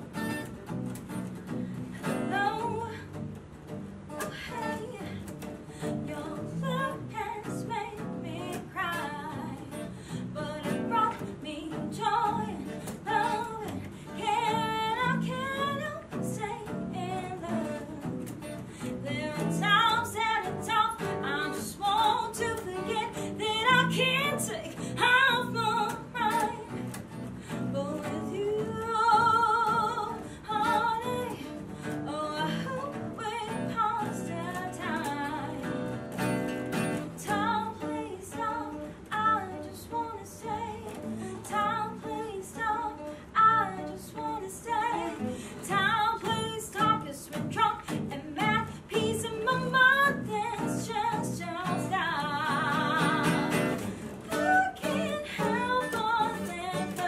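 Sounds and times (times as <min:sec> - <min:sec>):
acoustic guitars strummed and picked: 0:00.0 - 0:57.0
woman singing: 0:01.9 - 0:03.3, 0:04.1 - 0:57.0.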